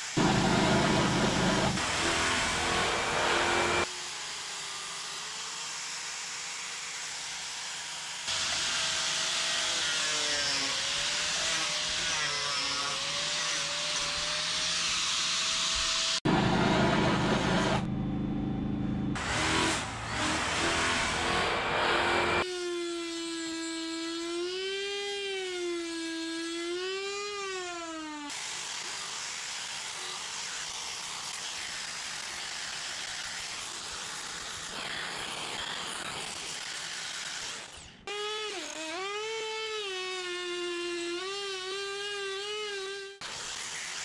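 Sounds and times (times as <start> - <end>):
electric carving tool whining: 0.0 - 17.9, 19.2 - 44.0.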